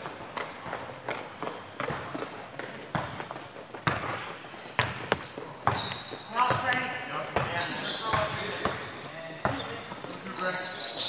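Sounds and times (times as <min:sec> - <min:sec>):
basketball bouncing on gym floor: 0:00.0 - 0:10.3
sneaker squeaks: 0:00.0 - 0:11.0.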